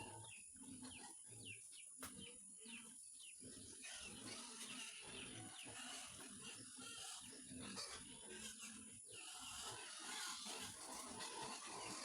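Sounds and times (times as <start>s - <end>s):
faint bird chirps: 0.0s - 9.8s.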